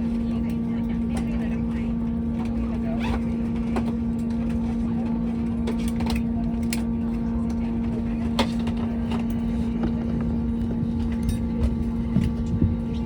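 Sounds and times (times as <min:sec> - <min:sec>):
jet airliner machinery drone: 0:00.0 - 0:13.0.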